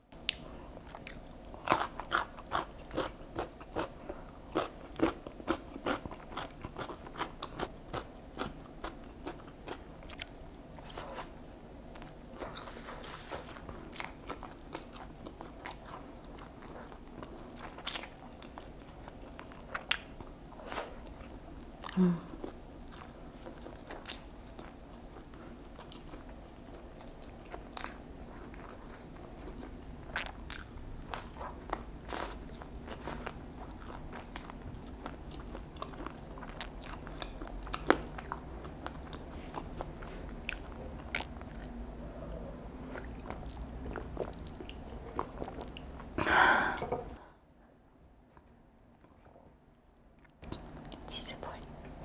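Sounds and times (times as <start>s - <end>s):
crunchy chewing: 0.3s - 11.3s, 11.9s - 46.1s.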